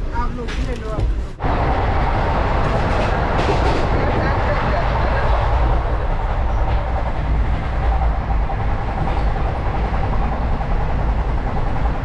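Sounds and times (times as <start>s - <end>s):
train rumble inside coach: 0.0s - 12.0s.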